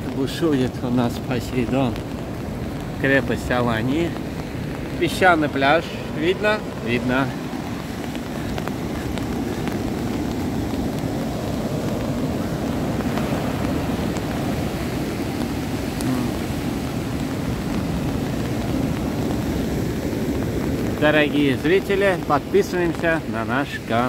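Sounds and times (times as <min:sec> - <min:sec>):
surf breaking on a beach: 0:00.0 - 0:24.0.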